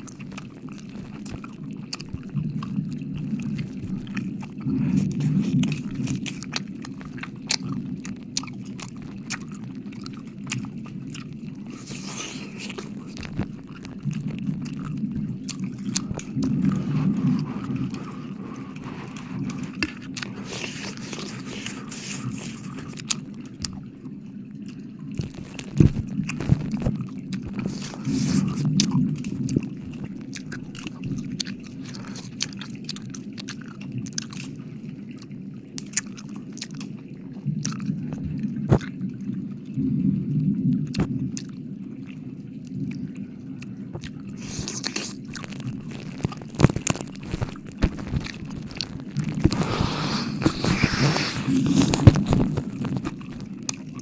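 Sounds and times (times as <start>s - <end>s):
sticky clicks and crackles: 0.0s - 23.8s, 24.7s - 34.6s, 35.8s - 37.0s, 43.6s - 54.0s
wet mouth licking sounds: 0.0s - 23.8s, 24.7s - 34.6s, 35.2s - 37.0s, 37.6s - 39.0s, 40.9s - 41.5s, 43.6s - 54.0s.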